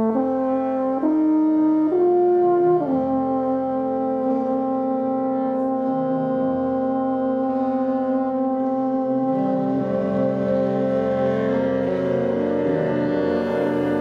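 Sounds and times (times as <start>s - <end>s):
alphorn long held notes: 0.0s - 14.0s
brass section chords: 0.0s - 14.0s.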